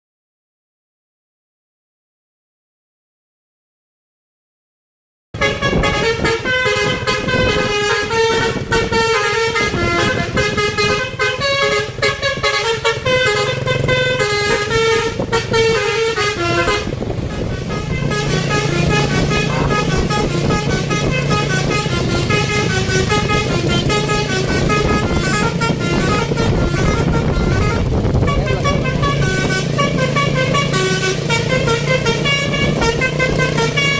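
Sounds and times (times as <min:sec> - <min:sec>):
multi-tone bus horn tune: 0:05.4 - 0:33.9.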